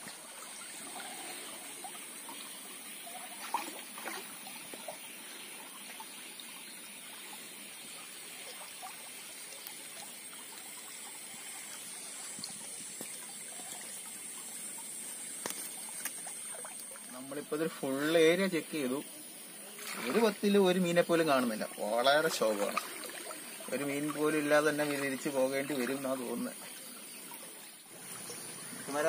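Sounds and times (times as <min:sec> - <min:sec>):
stream trickling over stones: 0:00.0 - 0:29.0.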